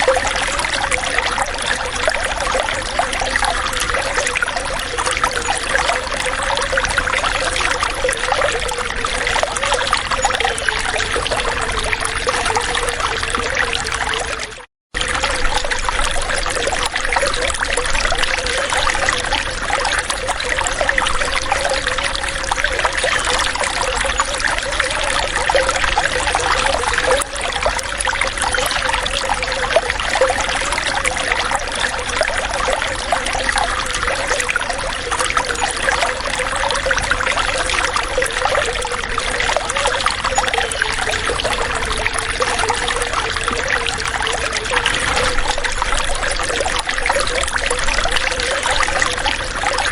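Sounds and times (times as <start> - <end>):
water trickling: 0.0 - 49.9.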